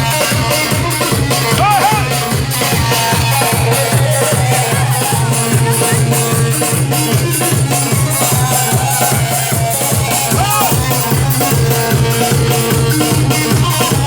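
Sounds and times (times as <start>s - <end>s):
folk dance music: 0.0s - 14.0s
steady drum beat: 0.0s - 14.0s.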